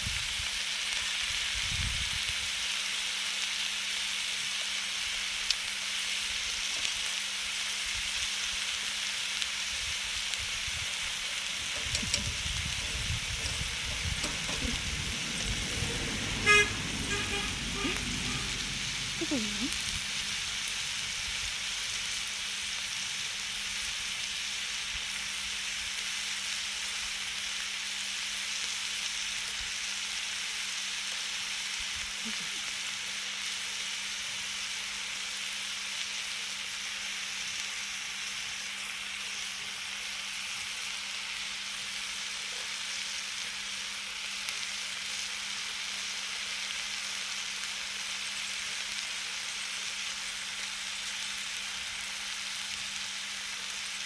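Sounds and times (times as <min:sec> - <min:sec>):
food sizzling on a grill: 0:00.0 - 0:54.0.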